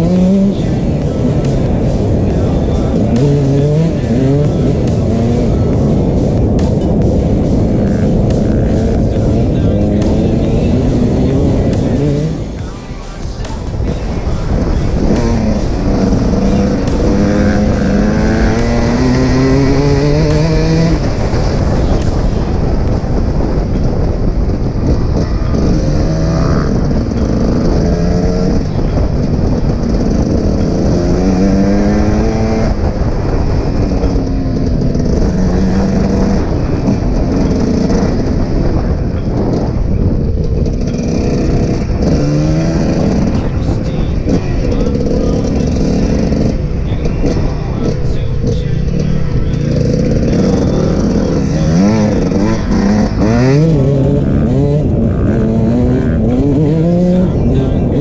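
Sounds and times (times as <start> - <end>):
dirt bike engine accelerating: 0.0 - 58.0.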